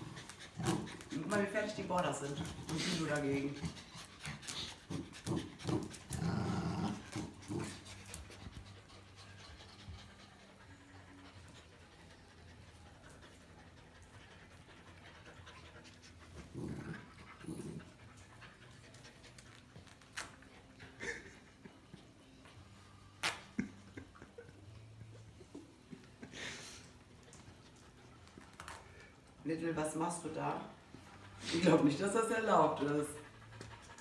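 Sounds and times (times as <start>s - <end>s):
dogs panting hard: 0.0s - 23.0s, 23.8s - 34.0s.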